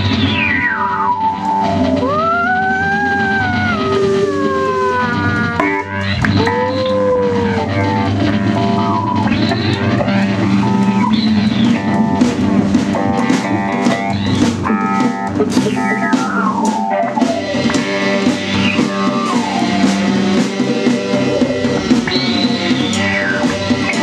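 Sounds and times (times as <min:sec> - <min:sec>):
drum kit: 0:00.0 - 0:24.0
sliding guitar notes: 0:00.0 - 0:24.0.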